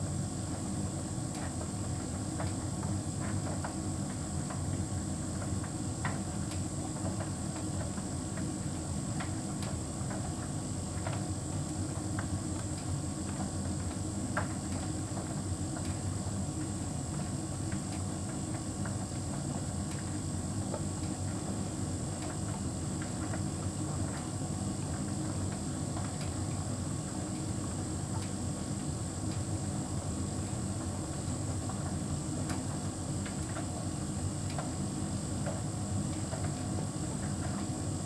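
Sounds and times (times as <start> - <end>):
tumble dryer humming with whine: 0.0 - 38.0.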